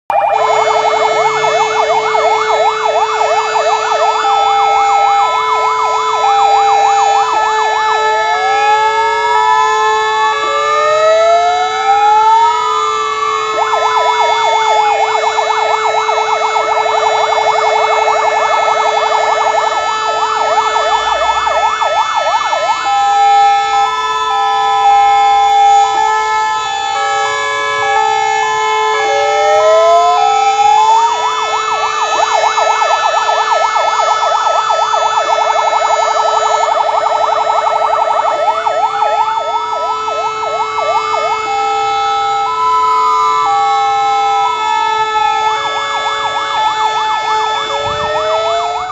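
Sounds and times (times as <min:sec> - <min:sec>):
fire engine sirens wailing: 0:00.0 - 0:48.9
steady held siren tone: 0:00.0 - 0:48.9.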